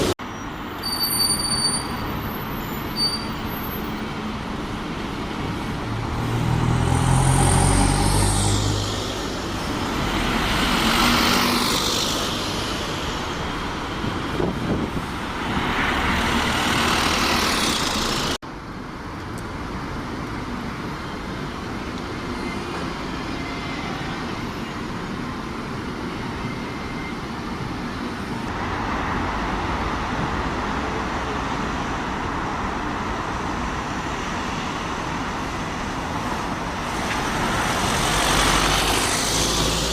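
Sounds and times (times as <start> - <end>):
road traffic noise: 0.0 - 39.9.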